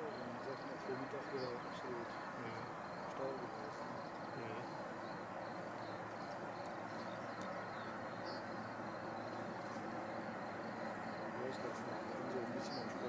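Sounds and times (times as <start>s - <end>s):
distant jet engines whining: 0.0s - 13.0s.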